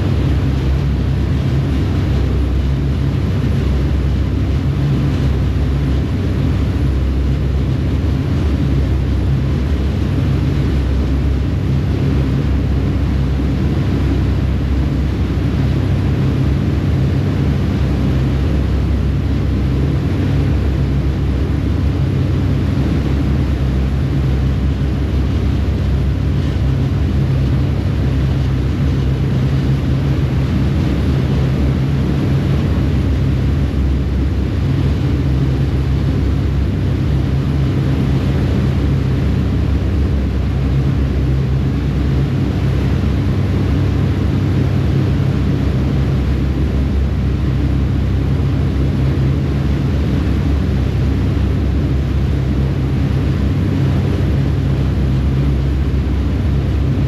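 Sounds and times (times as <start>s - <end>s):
propeller wake rushing: 0.0s - 57.0s.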